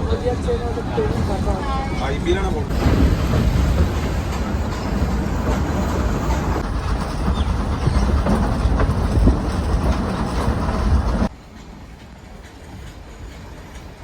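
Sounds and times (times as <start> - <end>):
train wheels clattering on rails: 2.7 - 14.0.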